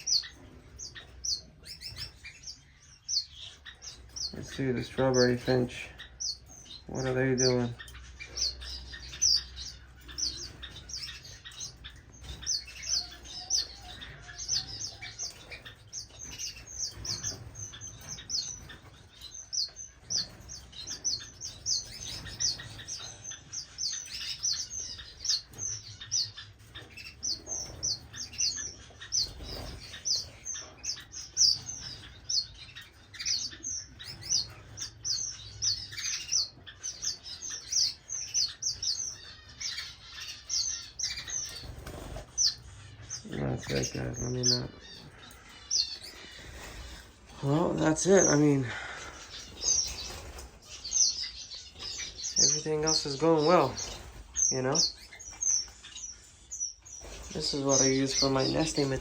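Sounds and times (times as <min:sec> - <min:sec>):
flock of small birds chirping: 0:00.0 - 0:59.0.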